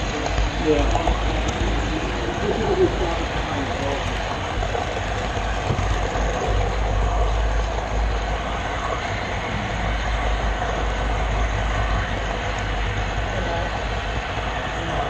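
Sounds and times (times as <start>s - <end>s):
model train rumble and rattle: 0.0s - 15.0s.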